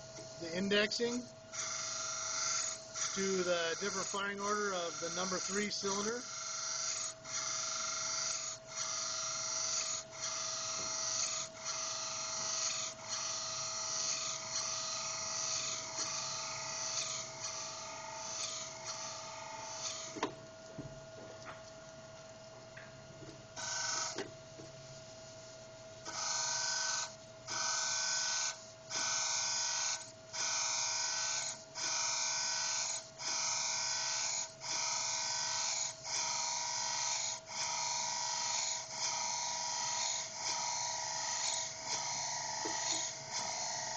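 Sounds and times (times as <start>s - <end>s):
grinding wheel grinding metal: 0.0s - 20.3s, 23.6s - 24.3s, 26.1s - 43.9s.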